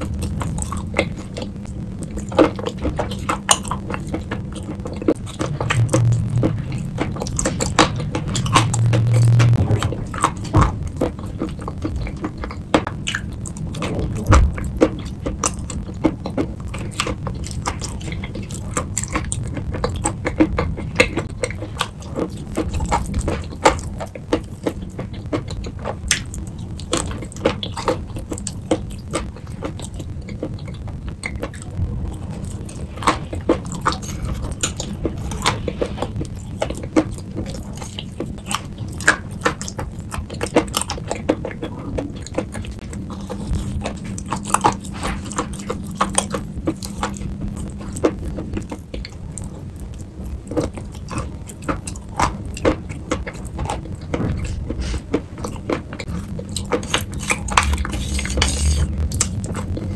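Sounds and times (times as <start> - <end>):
chewing and crunching chalk paste: 0.0 - 59.9.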